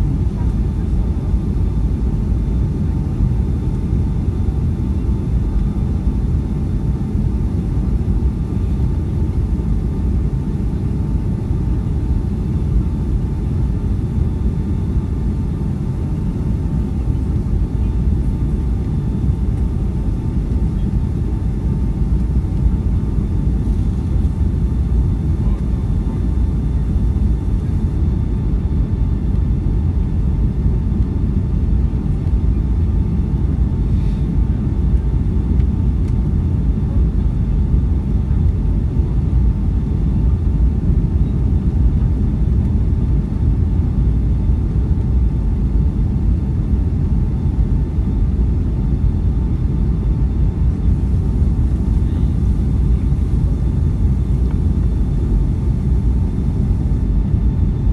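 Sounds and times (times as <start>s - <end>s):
faint steady hum: 0.0s - 57.9s
low rumble of engines and airflow: 0.0s - 57.9s.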